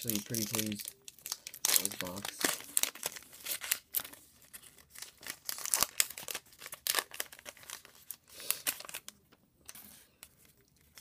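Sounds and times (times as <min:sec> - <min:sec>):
wrapper crinkling and tearing: 0:00.0 - 0:09.8.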